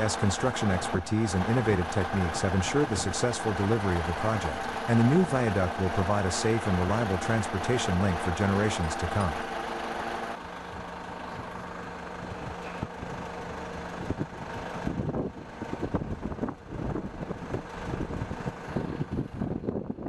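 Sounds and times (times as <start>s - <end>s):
engine humming: 0.0s - 20.0s
uneven engine rumbling with knocks: 0.0s - 20.0s.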